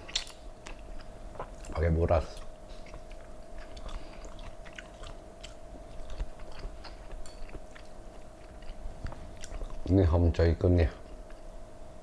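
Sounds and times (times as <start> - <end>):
man chewing food: 0.0 - 10.0, 11.0 - 11.6
faint steady hum: 0.0 - 12.0.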